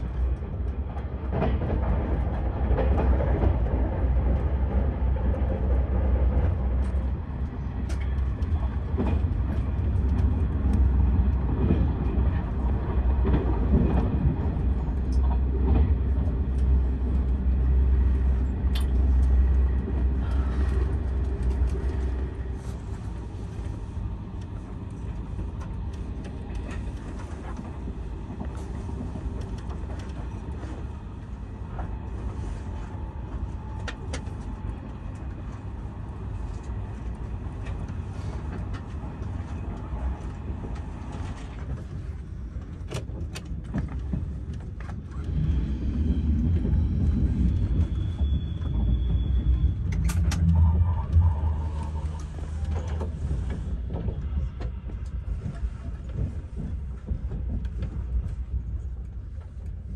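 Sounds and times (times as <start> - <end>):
train rumble inside carriage: 0.0 - 59.9.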